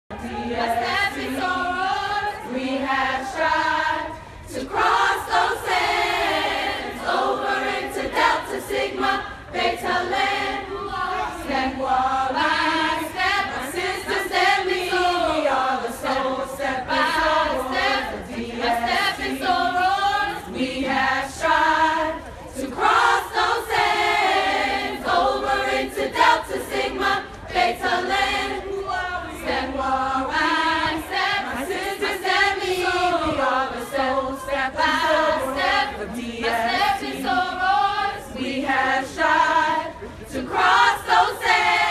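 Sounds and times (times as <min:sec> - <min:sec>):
women singing a cappella: 0:00.1 - 0:41.9.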